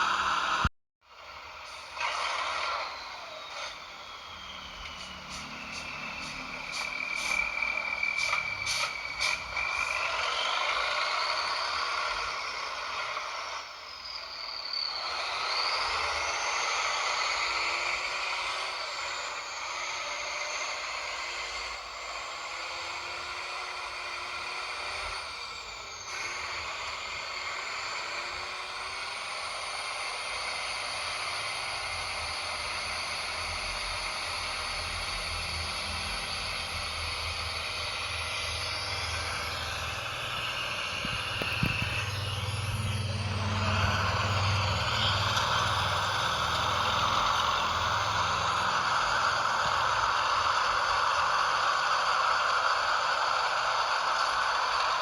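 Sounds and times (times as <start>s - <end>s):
toy truck motor whining: 0.0s - 55.0s.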